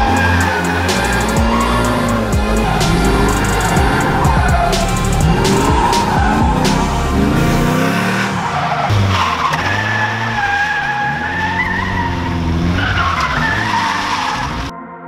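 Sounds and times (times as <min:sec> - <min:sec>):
car engines revving: 0:00.0 - 0:14.7
tyres skidding and squealing: 0:00.0 - 0:14.7.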